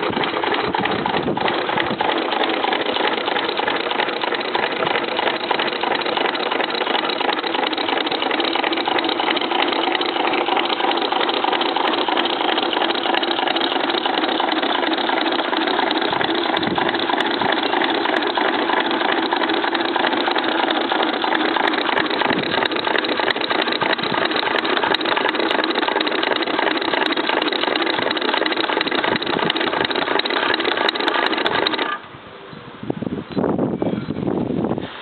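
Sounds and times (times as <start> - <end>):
electric motor running: 0.0 - 32.0
steady hum: 0.0 - 32.2.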